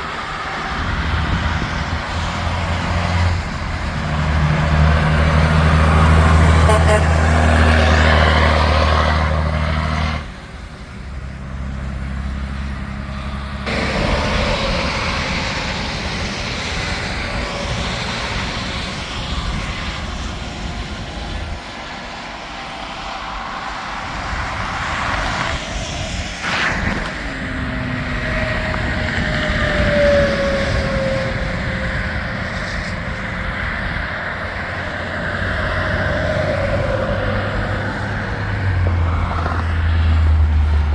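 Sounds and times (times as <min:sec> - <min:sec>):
diesel engine hum: 0:00.0 - 0:40.9
highway traffic passing: 0:00.0 - 0:40.9.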